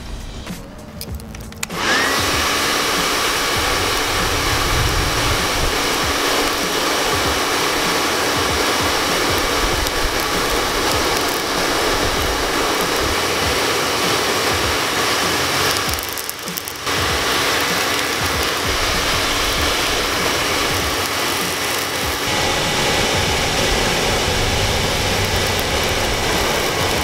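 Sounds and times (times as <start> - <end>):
hair dryer motor whining: 1.0 - 27.0
forced air blast: 1.6 - 27.0.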